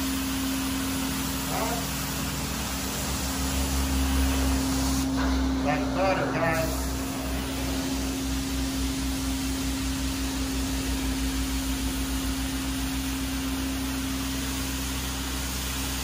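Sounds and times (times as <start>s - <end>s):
carpet cleaner suction hiss: 0.0s - 5.1s, 6.4s - 16.0s.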